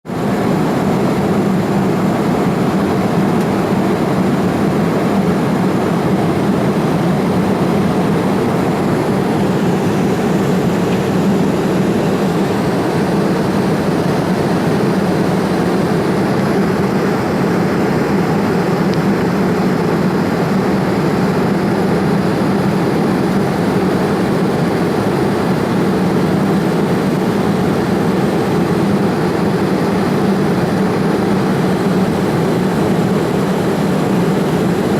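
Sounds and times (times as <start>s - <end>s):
airplane cabin engine drone: 0.0s - 34.9s.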